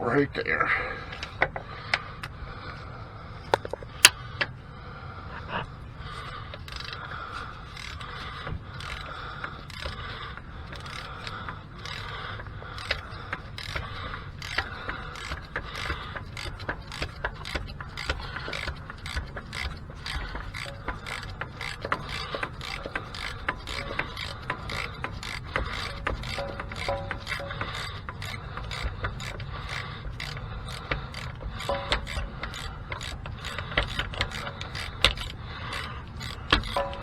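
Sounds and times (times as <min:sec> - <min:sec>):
socket ratchet clicking: 0:03.5 - 0:04.5, 0:06.5 - 0:37.0.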